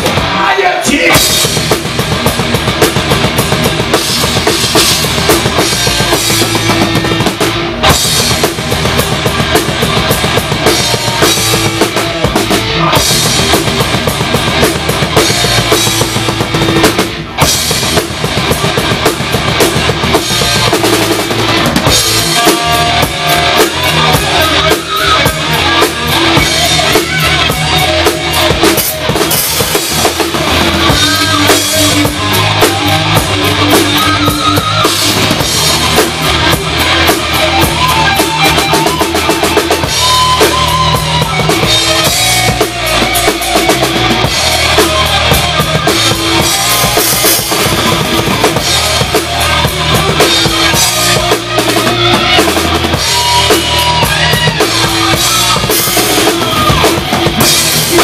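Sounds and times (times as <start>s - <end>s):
heavy metal band playing live: 0.0s - 58.0s.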